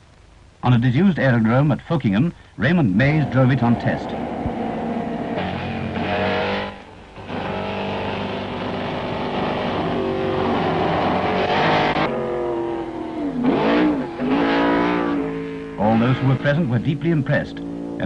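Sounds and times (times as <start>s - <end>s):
racing car engine running hard: 3.0s - 18.0s.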